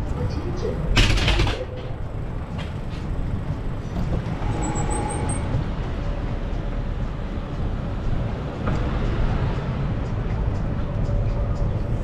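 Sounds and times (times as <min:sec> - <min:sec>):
street traffic rumble: 0:00.0 - 0:12.0
wind: 0:00.0 - 0:12.0.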